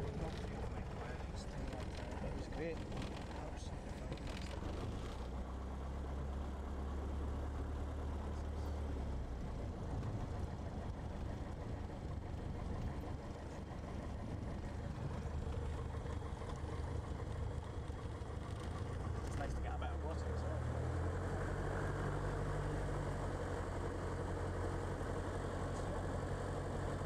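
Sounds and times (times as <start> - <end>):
light aircraft engine drone: 0.0 - 27.0.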